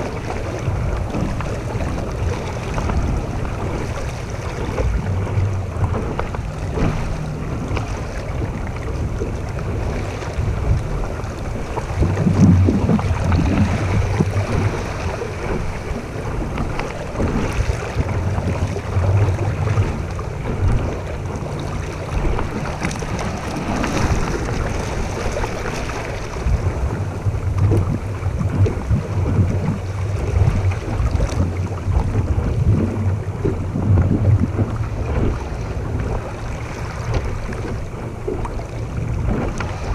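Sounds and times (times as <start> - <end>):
water splashing along boat hull: 0.0 - 39.9
wind buffeting microphone: 0.0 - 39.9.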